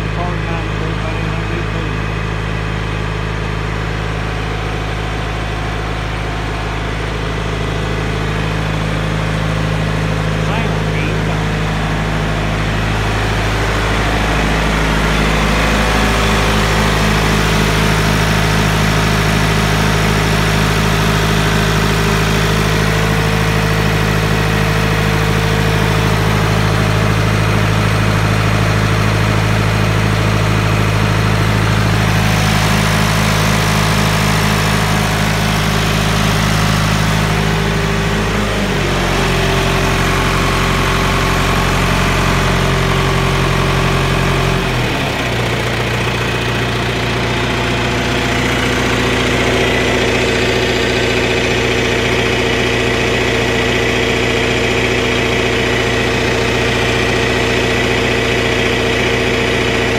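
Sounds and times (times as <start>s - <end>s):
backhoe engine idling: 0.0s - 59.9s.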